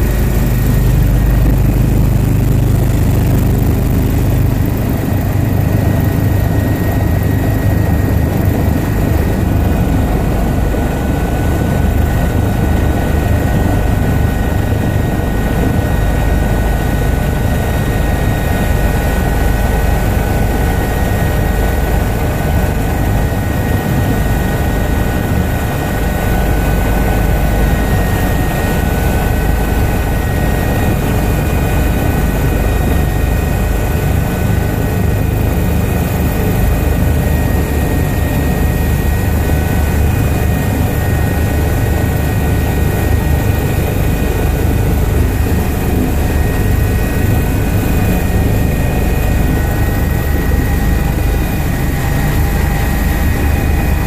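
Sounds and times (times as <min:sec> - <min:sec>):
helicopter rotor and engine drone: 0:00.0 - 0:54.0
high whine: 0:00.0 - 0:54.0.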